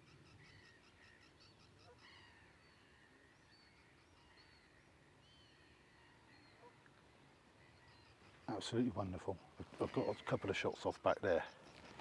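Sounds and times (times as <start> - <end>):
faint distant bird calls: 0.0 - 12.0.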